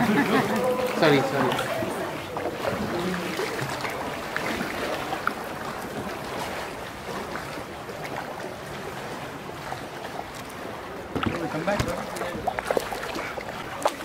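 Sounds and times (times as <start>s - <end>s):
water lapping around canoe: 0.0s - 14.0s.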